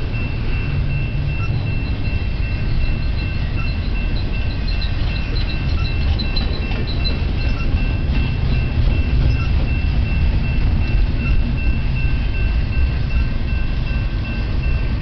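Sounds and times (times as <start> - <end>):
freight train rumbling on rails: 0.0 - 15.0
high-pitched ring: 0.0 - 15.0.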